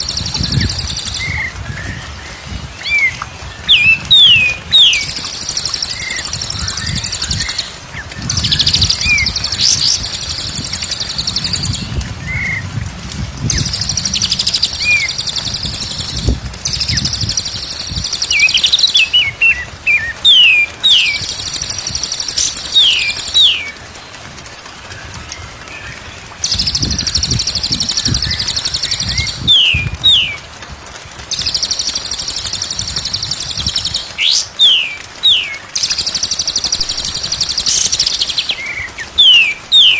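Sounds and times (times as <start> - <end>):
songbirds trilling and whistling: 0.0 - 12.8, 13.4 - 30.5, 31.3 - 39.9.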